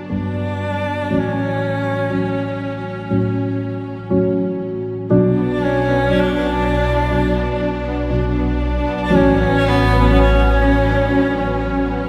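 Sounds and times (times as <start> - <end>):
sad bowed string music: 0.0 - 12.0.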